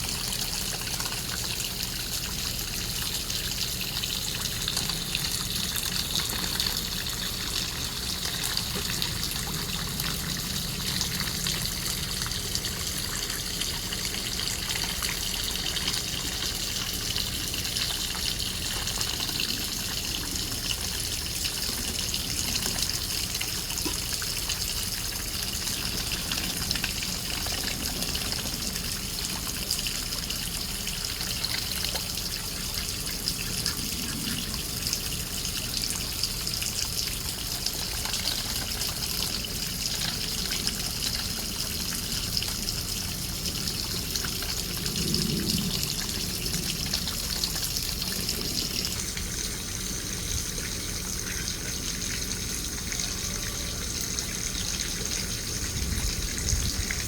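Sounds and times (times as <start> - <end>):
continuous high hiss: 0.0 - 57.0
water trickling and splashing: 0.0 - 57.0.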